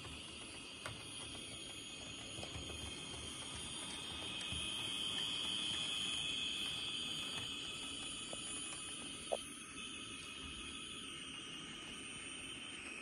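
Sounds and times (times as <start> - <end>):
model train motor whirring: 0.0 - 13.0
wheels on rails: 0.0 - 13.0.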